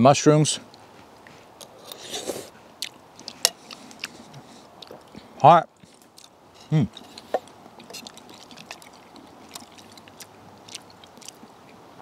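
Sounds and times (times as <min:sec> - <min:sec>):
small rustles of eating: 0:00.6 - 0:12.0
man chewing: 0:01.6 - 0:11.8.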